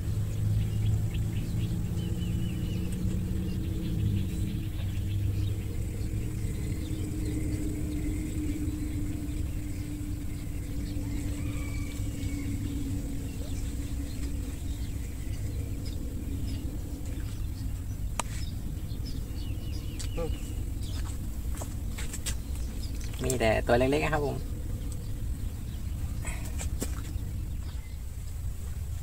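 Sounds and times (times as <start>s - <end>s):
faint bird calls: 0.0s - 28.2s
faint hum: 0.0s - 29.0s
low outdoor rumble: 0.0s - 29.0s.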